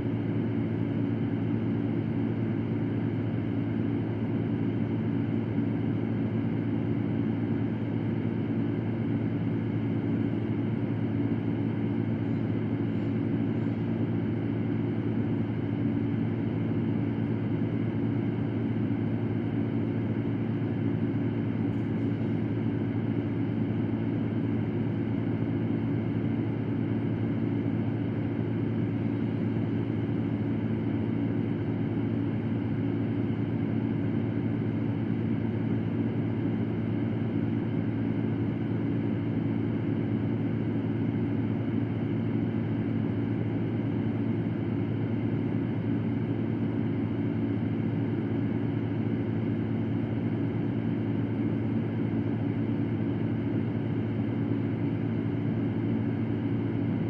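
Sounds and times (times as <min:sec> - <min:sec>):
electric fan running: 0:00.0 - 0:57.0.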